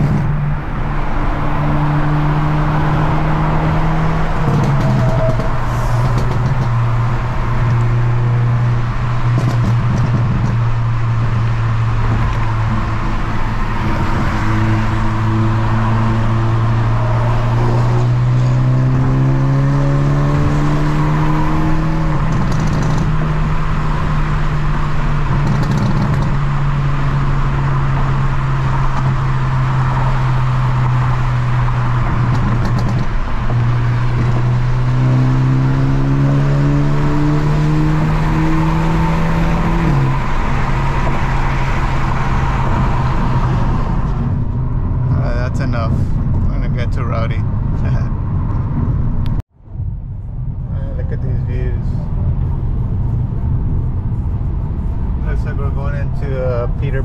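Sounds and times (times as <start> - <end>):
car engine and exhaust: 0.0 - 57.0.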